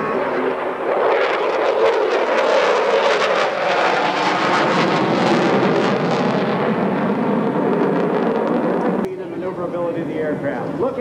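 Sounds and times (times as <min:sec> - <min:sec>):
jet roar flying by: 0:00.0 - 0:11.0.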